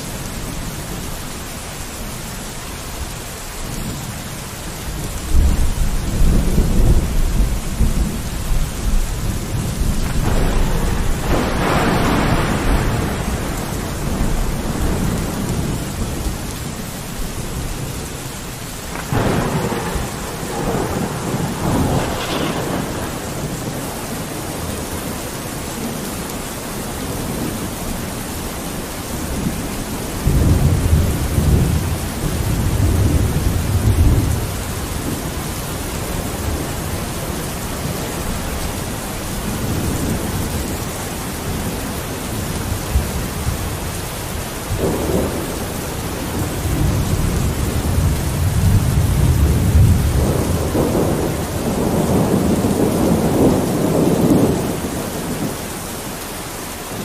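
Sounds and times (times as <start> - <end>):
steady rain: 0.0 - 57.0
low rolls of thunder: 4.9 - 26.2, 28.8 - 55.8.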